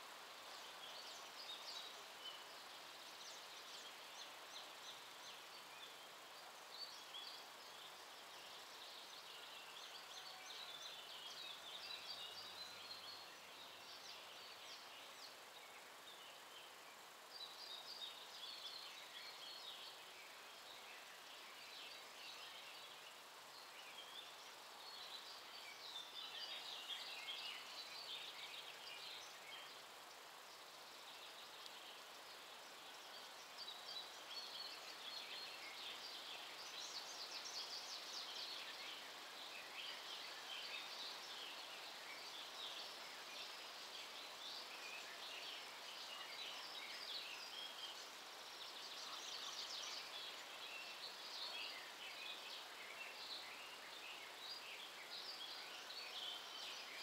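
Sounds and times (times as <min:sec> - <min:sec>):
outdoor hiss: 0:00.0 - 0:57.0.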